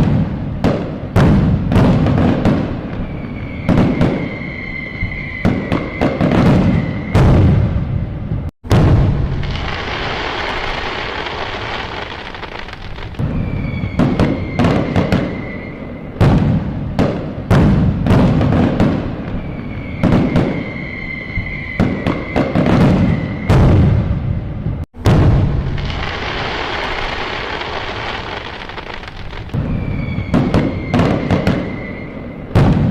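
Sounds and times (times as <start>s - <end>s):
fireworks crackling: 0.0s - 7.9s, 8.7s - 24.2s, 25.0s - 32.9s
fireworks bangs and booms: 0.0s - 32.9s
fireworks whistling: 0.0s - 32.9s.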